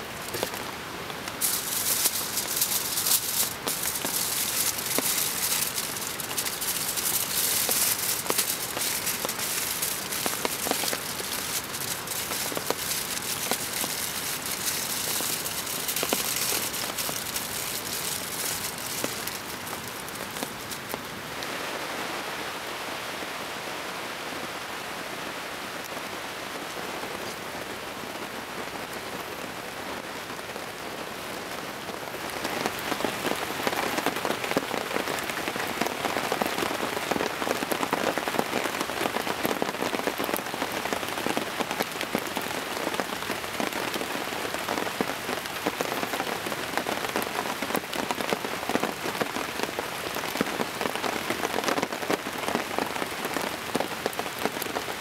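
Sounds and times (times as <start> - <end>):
heavy rain in forest: 0.0 - 55.0
raindrops hitting close by: 0.0 - 55.0.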